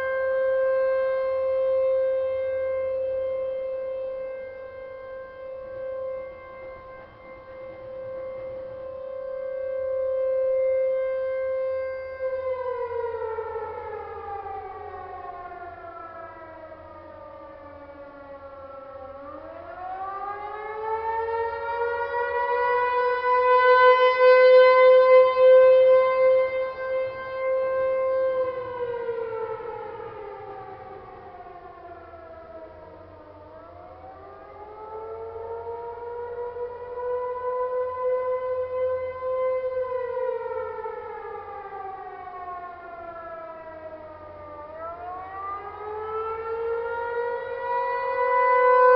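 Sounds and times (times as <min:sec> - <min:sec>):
warning siren wailing: 0:00.0 - 0:48.9.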